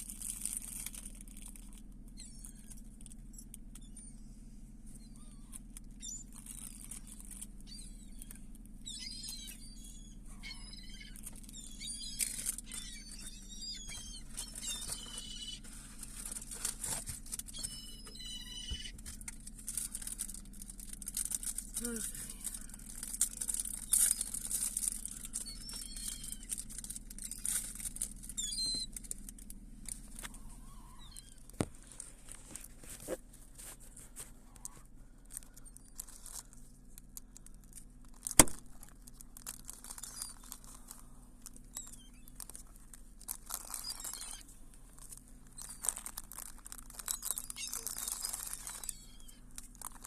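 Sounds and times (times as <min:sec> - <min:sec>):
crackling rustling near microphone: 0:00.0 - 0:50.0
faint high bird calls: 0:01.5 - 0:29.2, 0:29.8 - 0:32.1, 0:38.2 - 0:42.7, 0:43.4 - 0:49.6.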